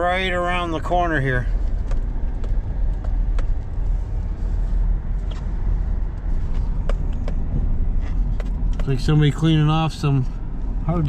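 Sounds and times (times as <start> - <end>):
truck cabin engine and road rumble: 0.0 - 11.0.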